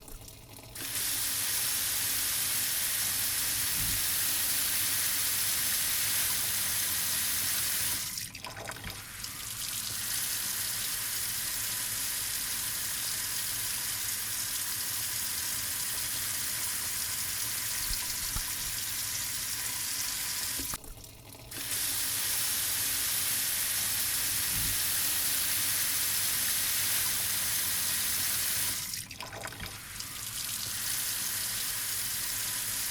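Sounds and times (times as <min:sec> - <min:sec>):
water running from a tap: 0:00.0 - 0:32.9.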